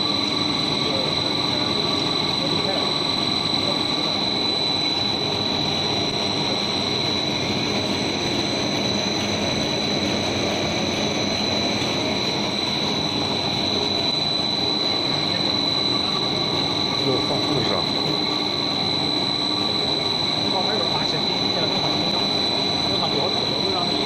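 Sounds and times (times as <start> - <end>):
high-pitched machine whine: 0.0 - 24.0
machine motor drone: 0.0 - 24.0.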